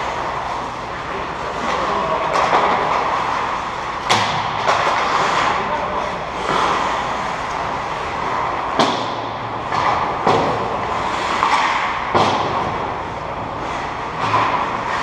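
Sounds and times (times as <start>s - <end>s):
skate blades scraping ice: 0.0s - 8.8s, 9.7s - 15.0s
hockey sticks and puck clacking: 0.0s - 15.0s.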